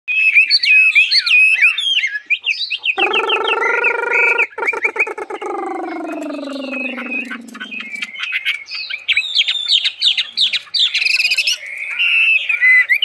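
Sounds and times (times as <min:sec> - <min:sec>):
bird singing whistled trills: 0:00.1 - 0:13.0.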